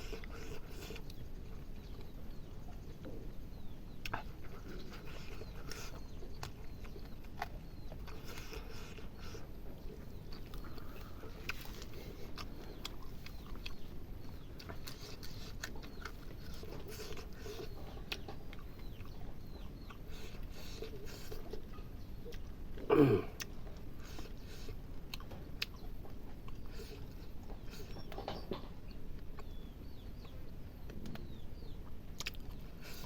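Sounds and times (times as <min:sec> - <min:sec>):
person chewing food: 0:00.0 - 0:30.0, 0:30.8 - 0:33.0.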